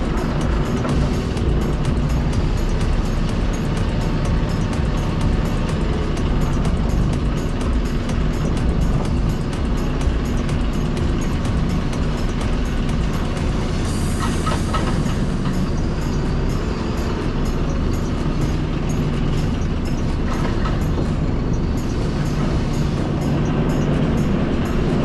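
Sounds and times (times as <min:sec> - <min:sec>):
diesel lorry engine running: 0:00.0 - 0:25.0.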